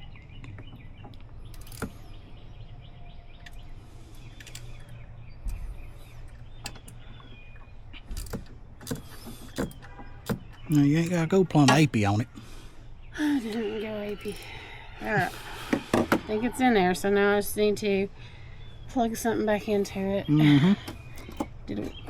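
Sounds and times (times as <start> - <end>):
faint bird chirps: 0.0 - 8.2, 9.0 - 22.0.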